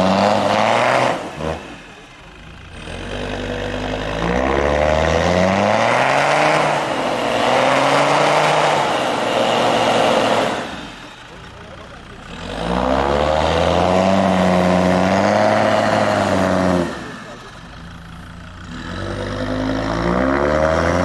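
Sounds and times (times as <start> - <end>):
diesel engine revving hard: 0.0 - 21.0
tyres spinning through snow: 0.0 - 21.0.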